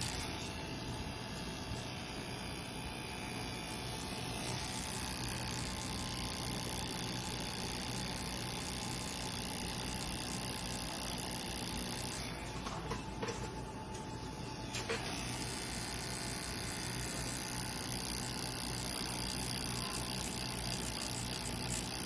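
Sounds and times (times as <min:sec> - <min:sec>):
tattoo machine whirring: 0:00.0 - 0:22.0.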